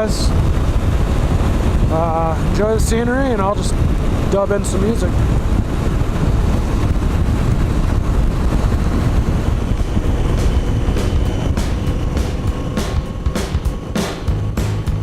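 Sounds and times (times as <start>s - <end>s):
motorcycle engine drone: 0.0s - 15.0s
wind rumble on microphone: 0.0s - 15.0s.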